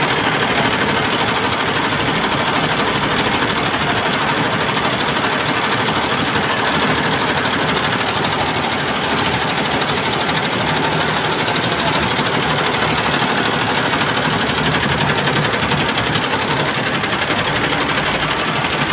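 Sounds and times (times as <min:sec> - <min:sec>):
embroidery machine needle chattering: 0:00.0 - 0:18.9.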